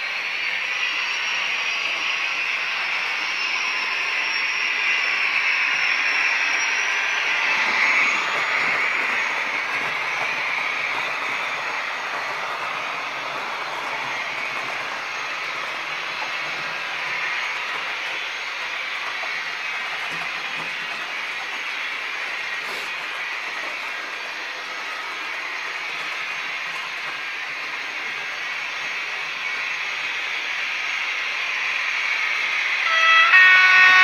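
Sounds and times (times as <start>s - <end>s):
model trains running on track: 0.0s - 34.0s.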